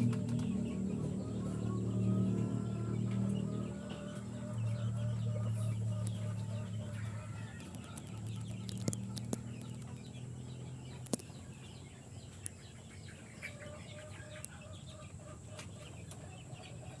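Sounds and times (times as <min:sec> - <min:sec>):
chickens clucking and peeping: 0:00.0 - 0:17.0
low steady hum: 0:00.0 - 0:17.0.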